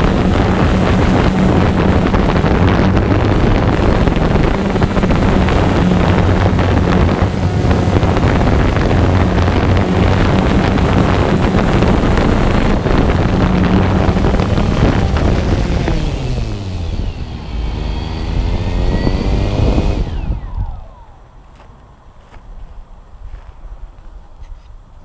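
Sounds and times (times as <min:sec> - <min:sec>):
drone propellers buzzing: 0:00.0 - 0:22.4.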